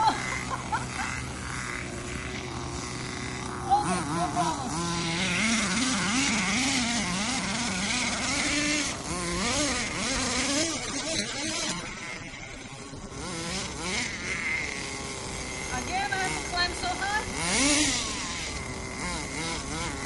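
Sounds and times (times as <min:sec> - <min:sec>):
small nitro engine revving: 0:00.0 - 0:20.0.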